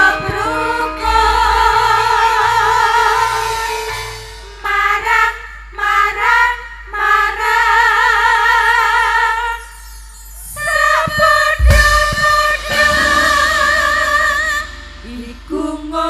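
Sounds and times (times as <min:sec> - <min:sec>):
women singing in unison: 0:00.0 - 0:09.7, 0:10.5 - 0:16.0.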